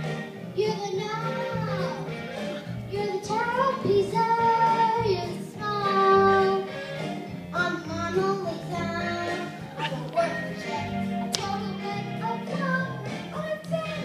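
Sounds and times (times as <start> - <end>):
instrumental accompaniment: 0.0 - 14.0
boy singing into microphone: 0.6 - 2.1, 2.9 - 6.7, 7.5 - 14.0.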